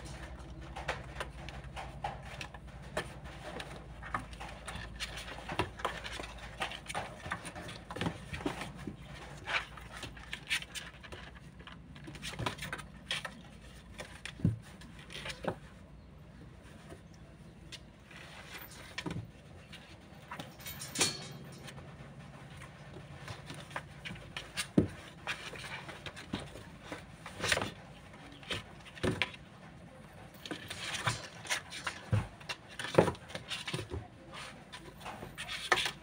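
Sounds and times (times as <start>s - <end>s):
kittens scratching on cardboard: 0.0s - 36.0s.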